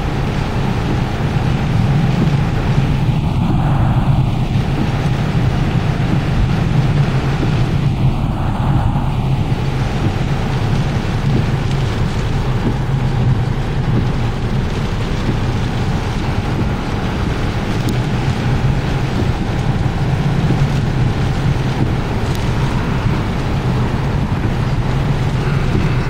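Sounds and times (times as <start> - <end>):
gale wind buffeting microphone: 0.0 - 26.0.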